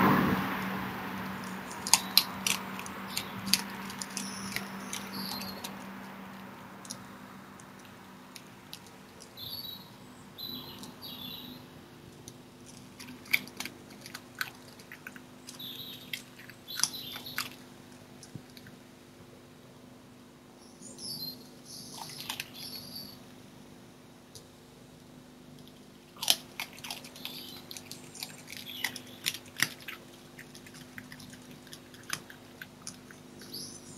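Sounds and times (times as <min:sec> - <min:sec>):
songbirds chirping: 0:01.2 - 0:33.9
fox chewing and crunching: 0:01.3 - 0:09.8, 0:10.7 - 0:19.1, 0:21.0 - 0:23.1, 0:25.5 - 0:33.9.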